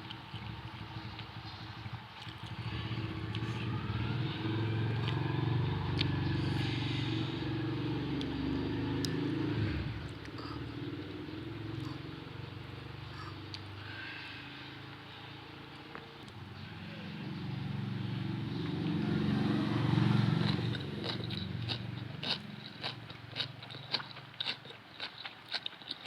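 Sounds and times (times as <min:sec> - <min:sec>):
vehicle engine passing: 0:00.0 - 0:24.4.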